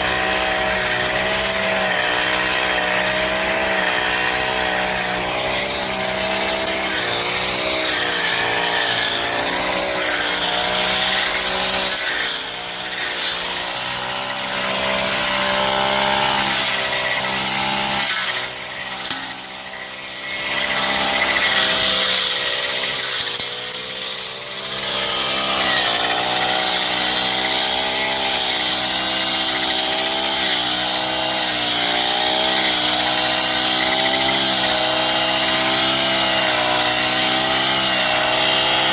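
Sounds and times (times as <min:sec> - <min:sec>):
brush cutter engine revving: 0:00.0 - 0:38.9.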